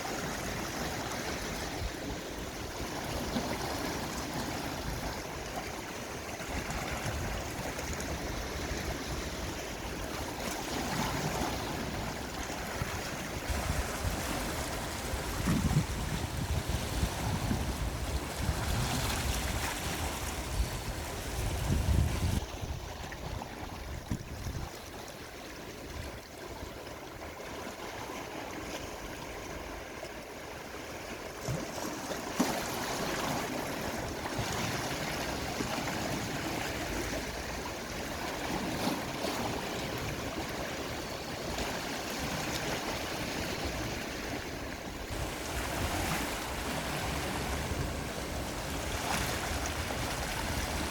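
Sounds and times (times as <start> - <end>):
sea waves washing against shore: 0.0 - 50.9.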